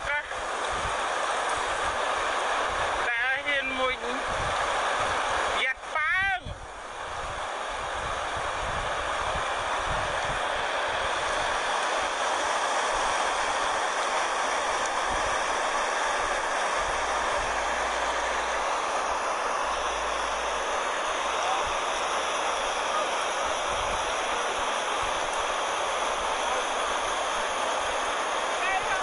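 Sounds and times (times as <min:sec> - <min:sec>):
river water pouring over weir: 0:00.0 - 0:29.0.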